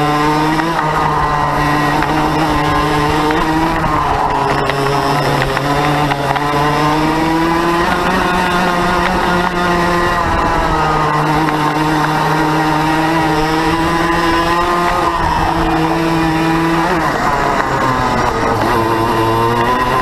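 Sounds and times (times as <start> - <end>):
go-kart engine at high revs: 0.0 - 20.0.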